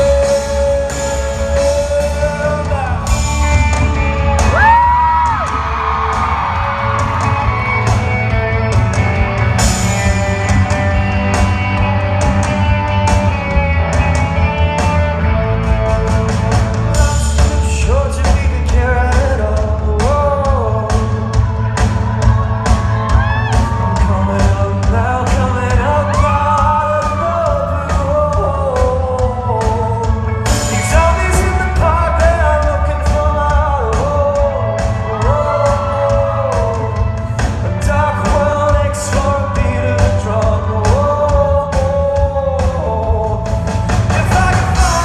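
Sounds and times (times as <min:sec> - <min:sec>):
live rock band: 0:00.0 - 0:45.0
person singing: 0:00.0 - 0:45.0.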